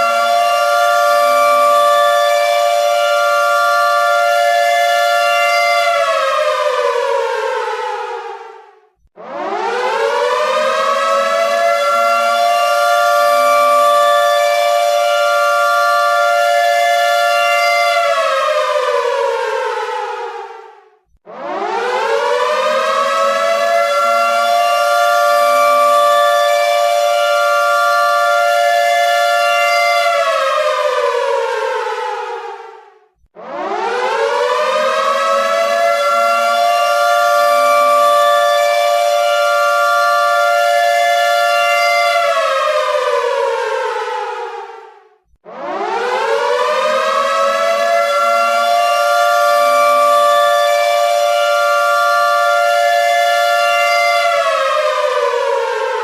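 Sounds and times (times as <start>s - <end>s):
air raid siren wailing: 0.0s - 32.8s, 33.4s - 56.0s.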